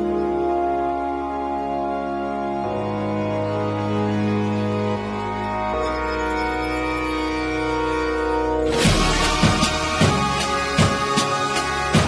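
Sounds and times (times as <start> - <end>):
sustained music chord: 0.0 - 12.0.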